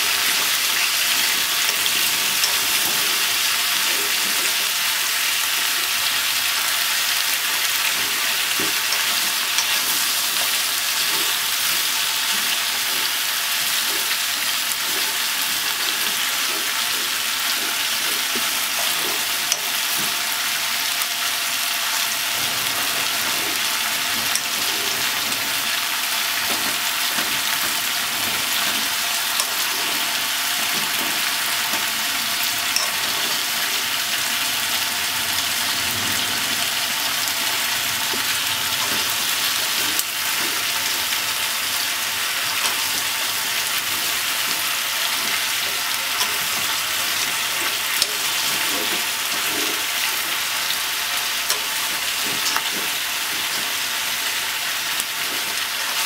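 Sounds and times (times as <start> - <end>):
chopsticks stirring in pot: 0.0 - 21.0, 22.1 - 35.1, 36.6 - 56.0
food sizzling in hot oil: 0.0 - 56.0.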